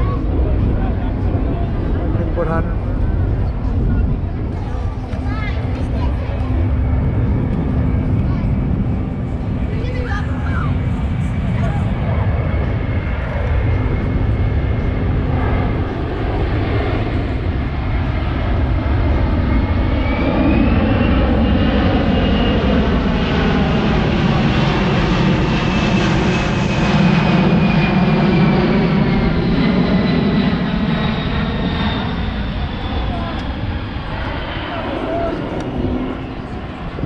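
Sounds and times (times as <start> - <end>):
aircraft engines running: 0.0 - 37.0.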